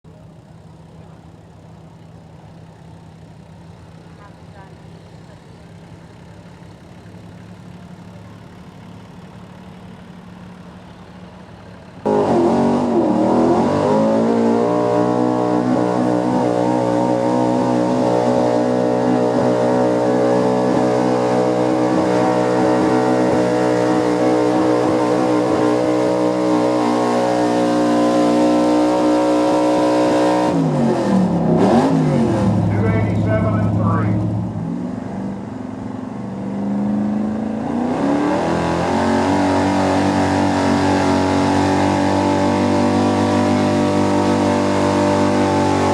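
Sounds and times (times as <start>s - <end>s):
truck engine revving: 0.1s - 45.9s.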